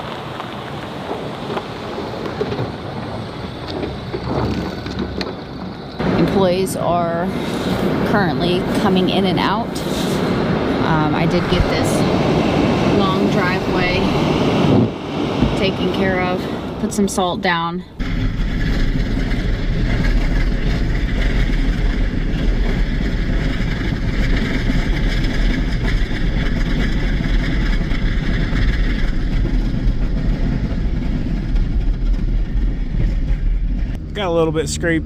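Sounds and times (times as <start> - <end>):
vehicle engine rumbling: 0.0 - 35.0.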